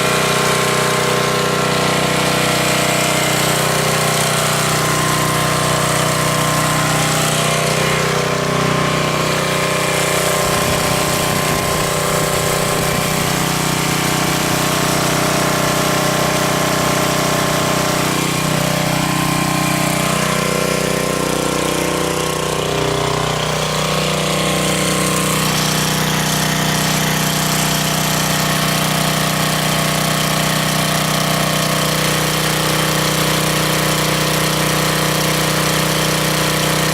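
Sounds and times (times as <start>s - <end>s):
portable generator engine running: 0.0s - 36.9s.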